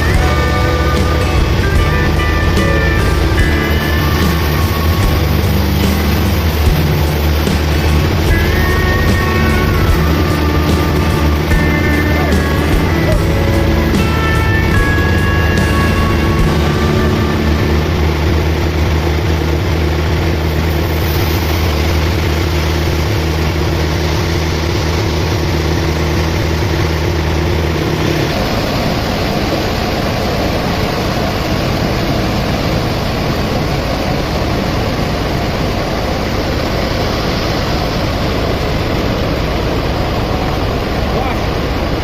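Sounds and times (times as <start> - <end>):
machinery humming: 0.0 - 42.0.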